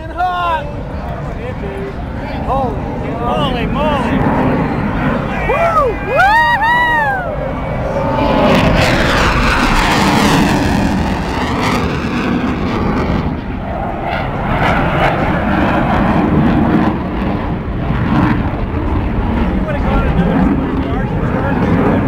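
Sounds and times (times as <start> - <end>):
jet roaring overhead: 0.0 - 22.0.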